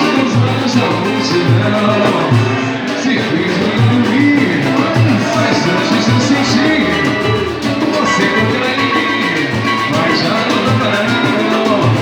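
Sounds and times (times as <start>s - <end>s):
band playing: 0.0s - 12.0s
steady drum beat: 0.0s - 12.0s.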